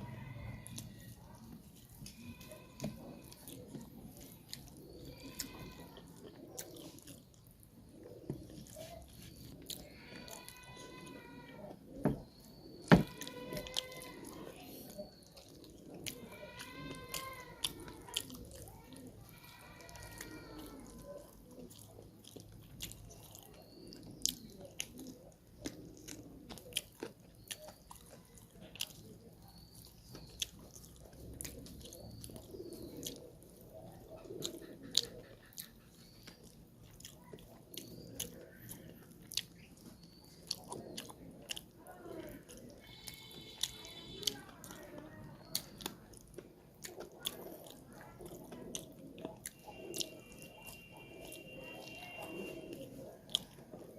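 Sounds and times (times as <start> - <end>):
chewing and biting food: 0.4 - 53.9.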